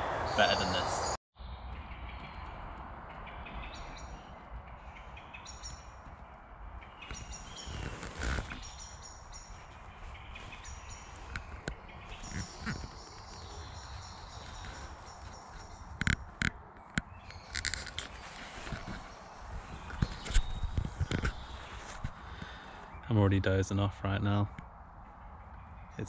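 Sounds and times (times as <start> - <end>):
small birds singing: 0.0 - 26.0.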